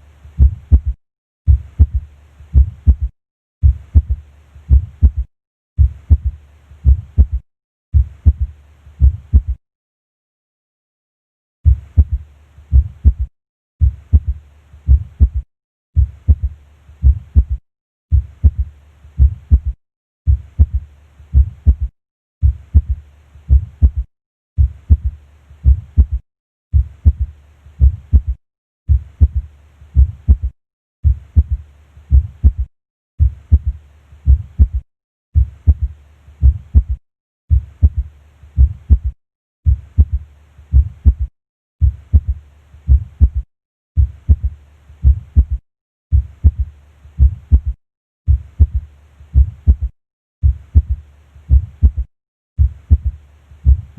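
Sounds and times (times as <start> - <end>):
low-pitched heartbeats: 0.4 - 7.4, 8.0 - 9.6, 11.6 - 15.4, 16.0 - 34.8, 35.4 - 53.9.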